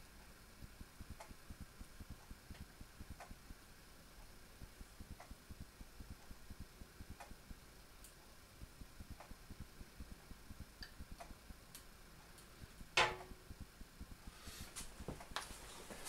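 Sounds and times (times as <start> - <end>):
faint rapid low ticking: 0.1 - 14.3.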